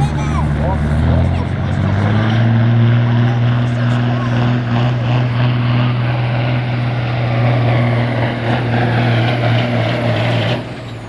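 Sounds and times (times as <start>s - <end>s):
diesel truck engine drone: 0.0s - 11.0s.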